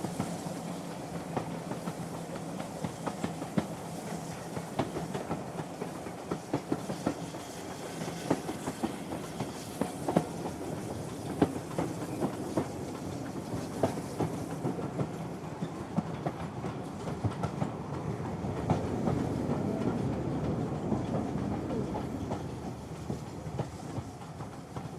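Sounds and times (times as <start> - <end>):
train cars rumbling: 0.0 - 24.9.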